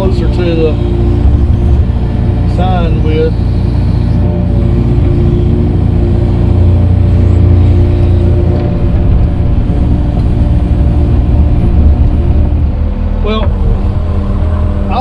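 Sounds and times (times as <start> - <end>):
earthmoving machine engine running: 0.0 - 15.0.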